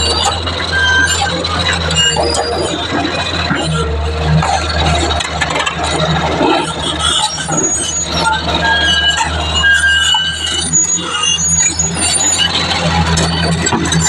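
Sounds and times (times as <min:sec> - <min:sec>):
excavator diesel engine running: 0:00.0 - 0:14.0
short high-pitched squeaks: 0:00.0 - 0:14.0.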